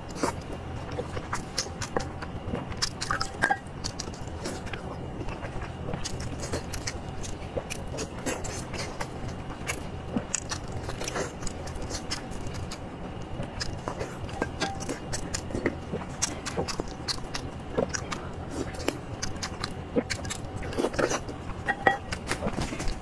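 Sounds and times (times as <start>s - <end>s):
wet chewing and mouth smacks: 0.0s - 23.0s.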